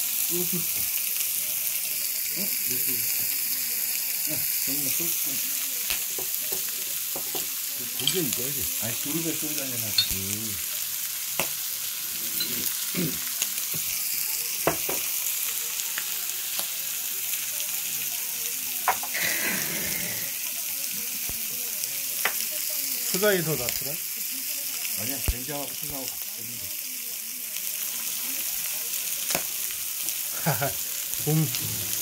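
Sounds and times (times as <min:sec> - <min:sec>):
food sizzling on a hot grill: 0:00.0 - 0:32.0.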